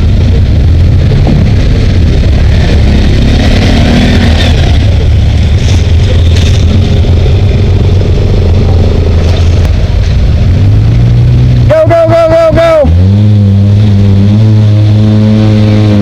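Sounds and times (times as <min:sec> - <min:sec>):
off-road vehicle engine humming: 0:00.0 - 0:16.0.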